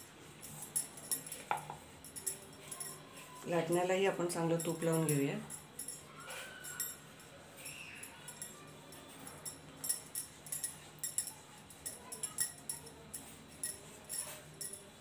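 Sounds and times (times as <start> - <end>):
bangles clinking: 0.0 - 15.0.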